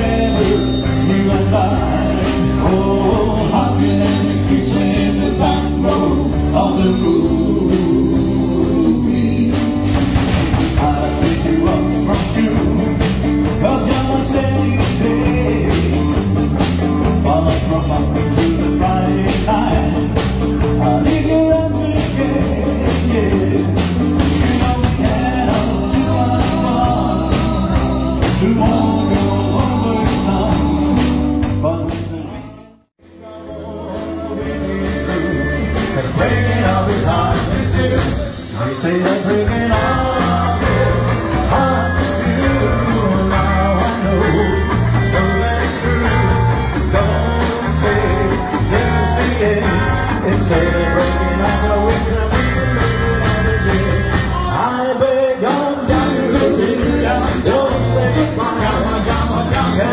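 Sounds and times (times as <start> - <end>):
rock and roll band music: 0.0 - 59.9.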